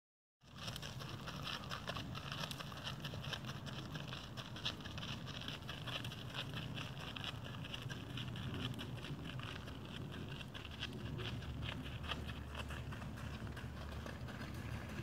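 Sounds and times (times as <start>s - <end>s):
hooves crunching on gravel: 0.4s - 15.0s
steady low hum: 0.5s - 15.0s.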